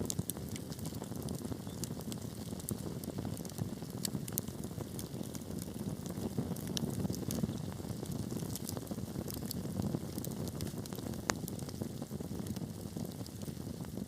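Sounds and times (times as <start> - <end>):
wood fire burning: 0.0 - 14.0.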